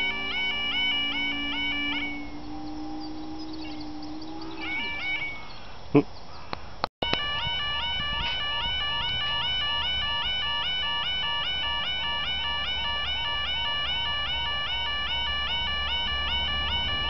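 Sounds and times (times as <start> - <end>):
level crossing alarm warbling: 0.0 - 5.5, 7.0 - 17.0.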